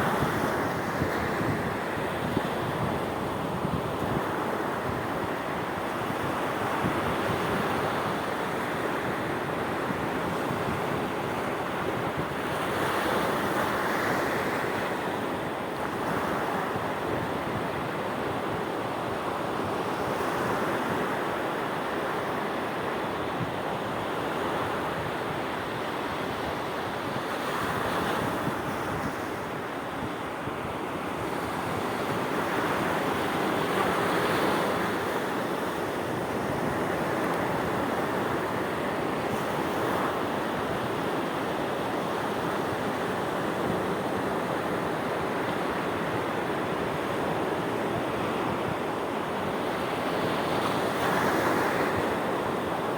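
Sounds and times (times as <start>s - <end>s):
sea waves washing ashore: 0.0s - 52.9s
wind noise on microphone: 0.0s - 52.9s.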